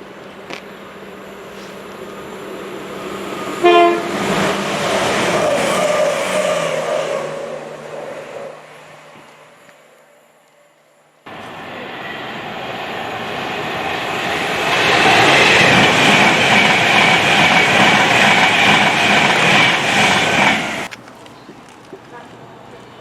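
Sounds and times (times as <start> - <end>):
train rumble and wheel noise: 0.0 - 10.6, 11.3 - 21.0.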